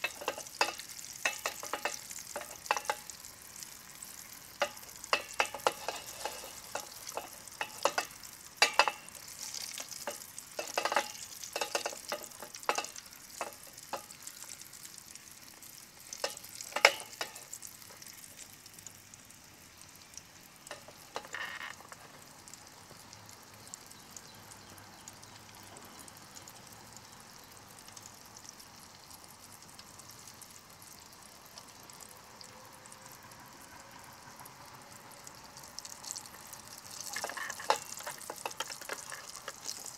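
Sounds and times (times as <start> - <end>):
oil sizzling with crackles and pops: 0.0 - 39.9.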